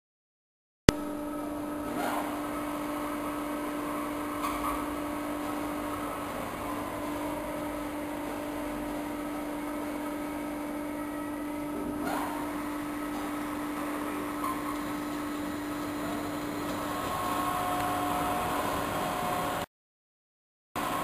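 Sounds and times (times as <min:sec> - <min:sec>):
industrial shredder humming: 0:00.9 - 0:19.6.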